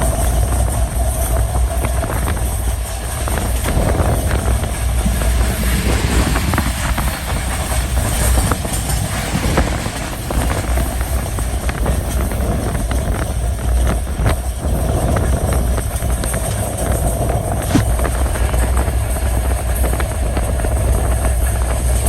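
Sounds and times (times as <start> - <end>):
train rumbling on rails: 0.0 - 22.0
wheels clicking over track: 0.0 - 22.0.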